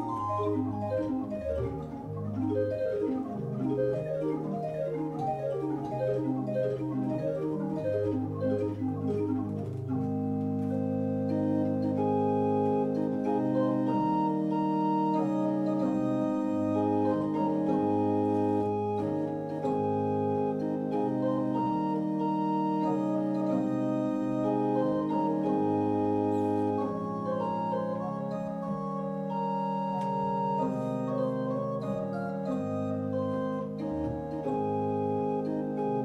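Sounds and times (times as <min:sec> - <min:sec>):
pipe organ playing slow chords: 0:00.0 - 0:36.0.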